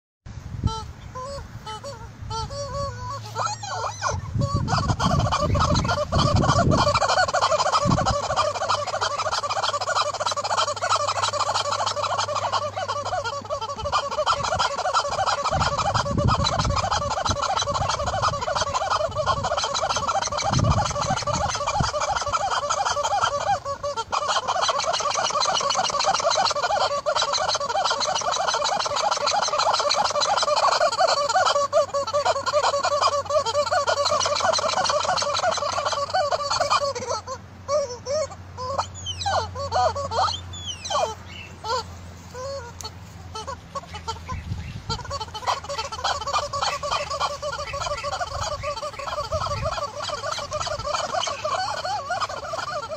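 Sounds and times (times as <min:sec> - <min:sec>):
rubber chicken toy squeaking: 0:00.7 - 0:52.9.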